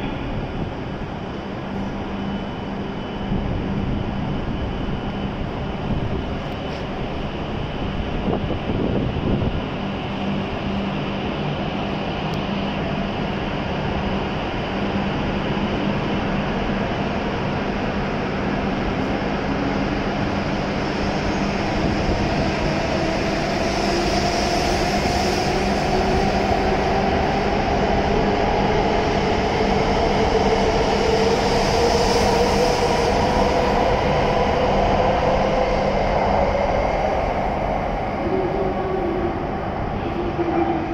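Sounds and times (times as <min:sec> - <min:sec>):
rush of passing train cars: 0:00.0 - 0:40.9.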